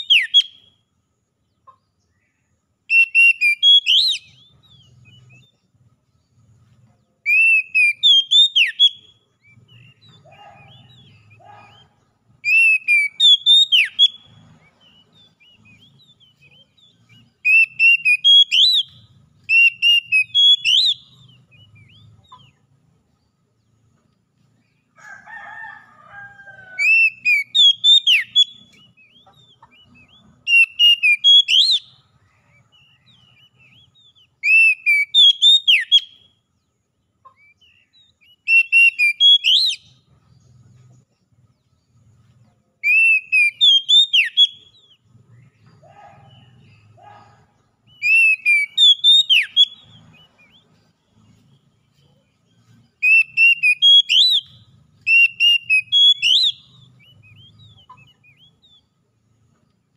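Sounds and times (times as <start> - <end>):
bird whistled song: 0.0 - 0.9, 2.1 - 22.8, 26.5 - 36.7, 37.3 - 40.2, 41.6 - 59.9.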